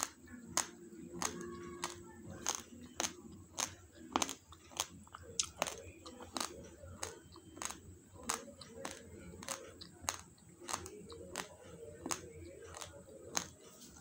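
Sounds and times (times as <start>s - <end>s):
raw rice crunching between teeth: 0.0s - 14.0s.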